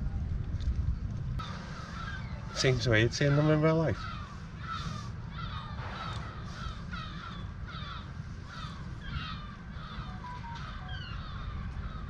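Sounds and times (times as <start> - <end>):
bird harsh falling calls: 1.4 - 12.0.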